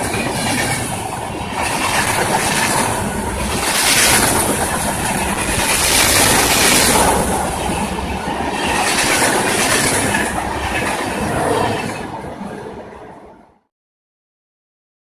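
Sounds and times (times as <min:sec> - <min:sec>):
wheels clattering on rails: 0:00.0 - 0:12.6
train passing at speed: 0:00.0 - 0:13.7.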